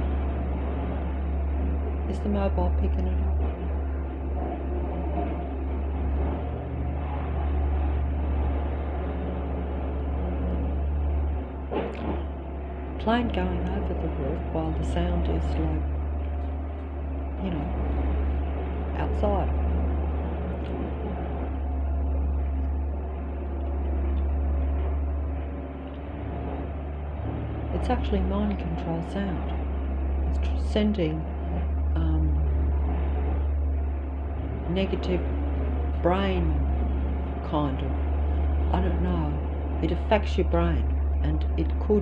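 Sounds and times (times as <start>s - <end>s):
airplane passing overhead: 0.0s - 42.0s
low droning hum: 0.0s - 42.0s.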